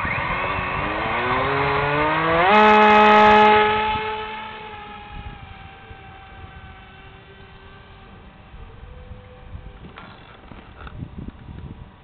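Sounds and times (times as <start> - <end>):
small electric motor and propeller whining: 0.0 - 12.0.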